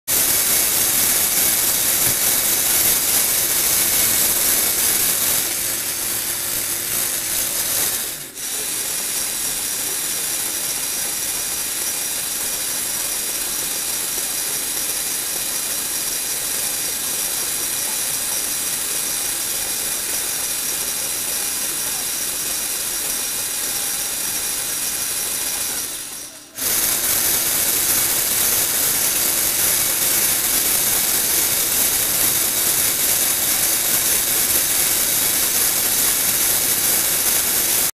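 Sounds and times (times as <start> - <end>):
toy car motor whirring: 0.1 - 37.9.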